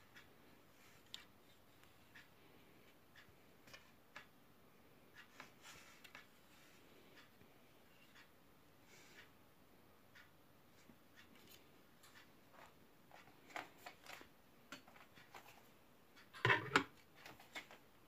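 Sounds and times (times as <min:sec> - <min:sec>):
faint steady ticking: 0:00.0 - 0:18.0.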